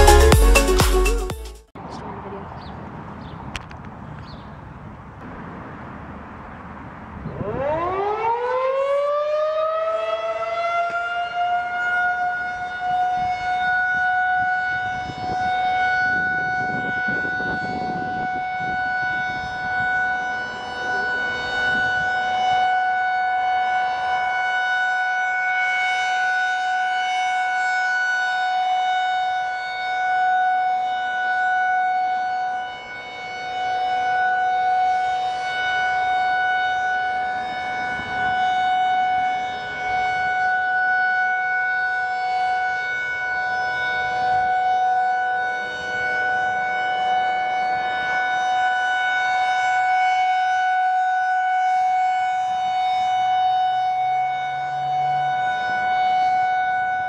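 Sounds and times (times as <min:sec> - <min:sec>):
tornado siren steady tone: 0:05.2 - 0:57.0.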